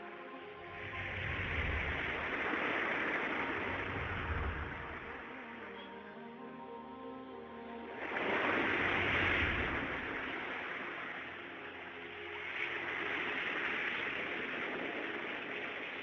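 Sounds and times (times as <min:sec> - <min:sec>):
sea surf breaking on beach: 0:00.1 - 0:06.0, 0:07.8 - 0:16.0.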